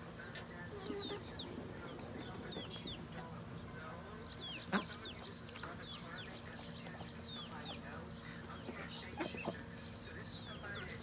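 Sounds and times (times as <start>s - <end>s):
hens calling: 0.6s - 11.0s.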